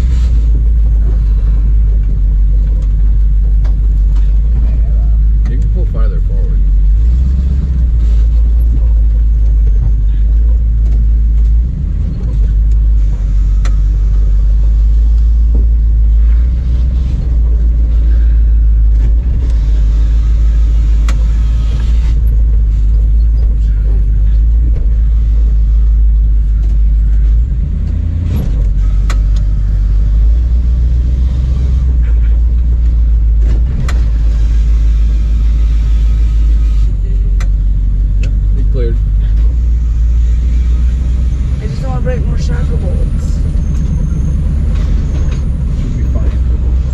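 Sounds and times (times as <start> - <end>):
truck engine low rumble: 0.0 - 46.9.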